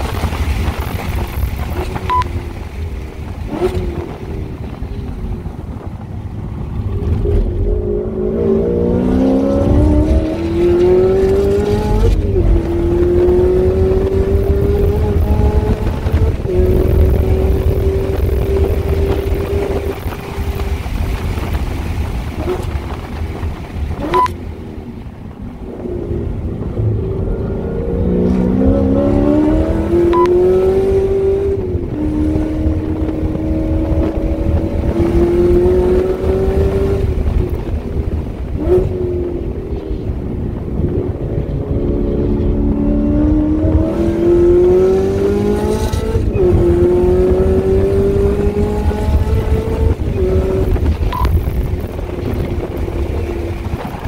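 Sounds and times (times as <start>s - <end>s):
car engine accelerating: 0.0s - 54.0s
wind rumble: 0.0s - 54.0s.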